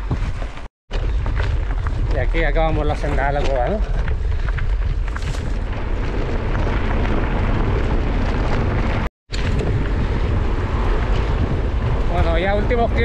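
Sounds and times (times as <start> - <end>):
wind buffeting microphone: 0.0 - 13.0
tyres rolling over gravel: 0.9 - 13.0.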